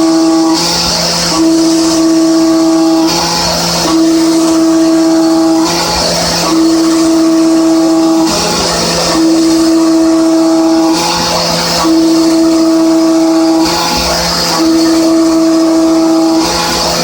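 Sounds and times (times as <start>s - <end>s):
milling cutter high-pitched tone: 0.0s - 17.0s.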